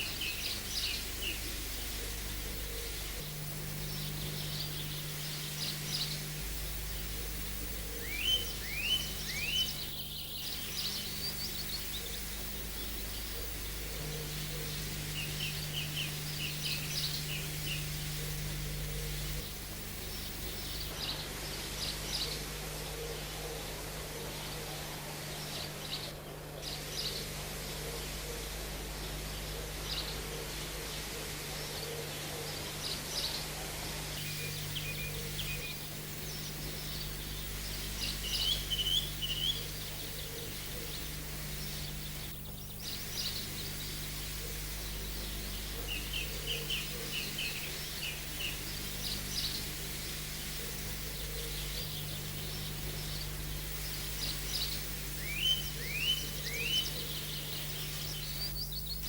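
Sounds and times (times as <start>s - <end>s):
birds chirping: 0.0s - 30.6s, 34.2s - 59.0s
low hum: 0.0s - 59.0s.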